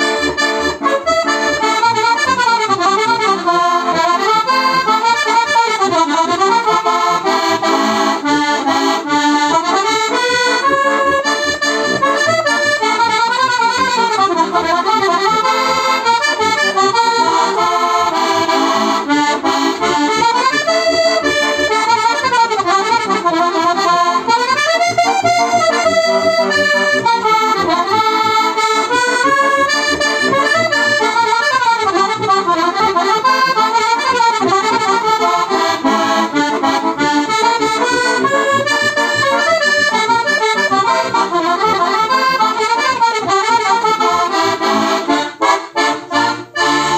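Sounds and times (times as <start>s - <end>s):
button accordion folk tune: 0.0s - 46.9s.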